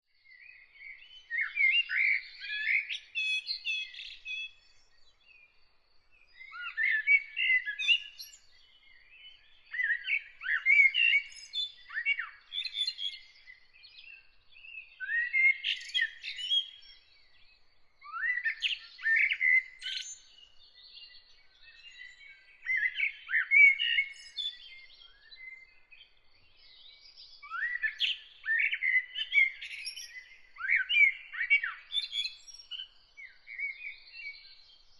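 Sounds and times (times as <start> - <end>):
songbird singing warbled phrases: 0.2 - 34.9.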